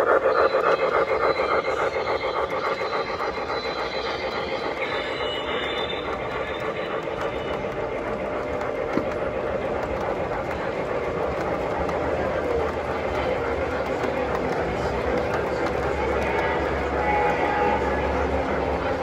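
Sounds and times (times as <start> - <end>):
freight cars rumbling on track: 0.0 - 19.0
model steam locomotive sound: 0.0 - 19.0.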